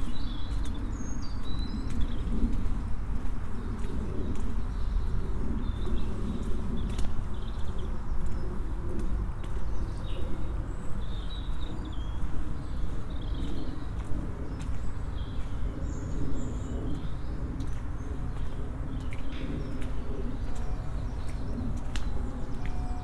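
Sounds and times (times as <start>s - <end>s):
songbirds chirping: 3.7s - 23.0s.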